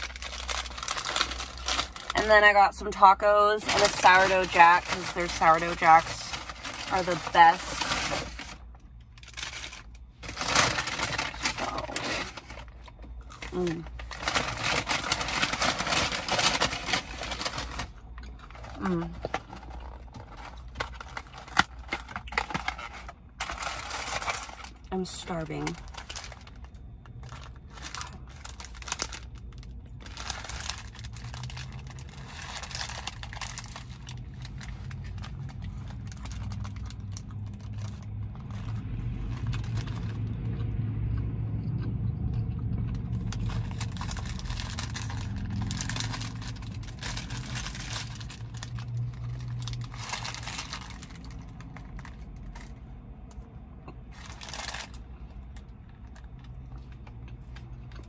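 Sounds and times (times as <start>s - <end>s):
paper wrapper crinkling: 0.0s - 2.4s, 3.6s - 40.3s, 43.1s - 52.9s, 54.0s - 58.0s
low rumble from outside: 0.0s - 58.0s.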